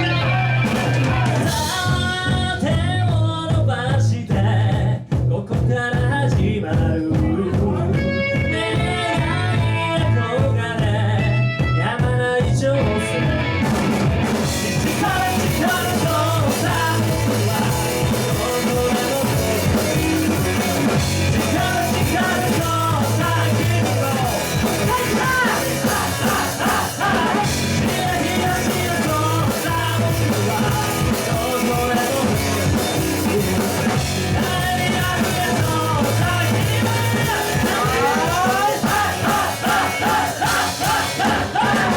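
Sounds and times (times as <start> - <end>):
punk rock band with singer: 0.0 - 41.9.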